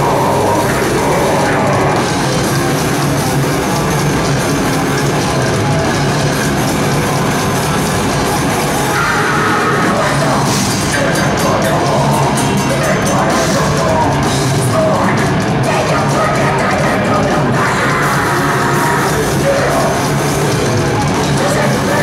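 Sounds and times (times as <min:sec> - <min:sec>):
live heavy metal band: 0:00.0 - 0:22.0.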